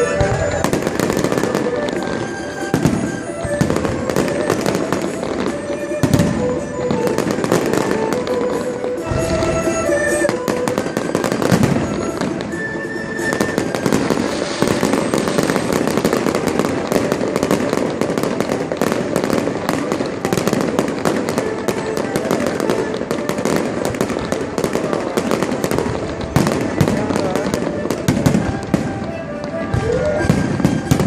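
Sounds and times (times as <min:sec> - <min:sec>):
firework whistles: 0:00.0 - 0:31.0
fireworks crackling and banging: 0:00.0 - 0:31.0.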